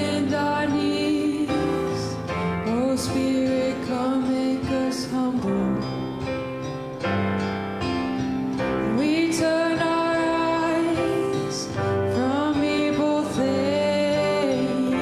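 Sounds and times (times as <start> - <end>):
person singing worship song: 0.0 - 6.2, 8.8 - 15.0
acoustic guitar strumming: 0.0 - 15.0.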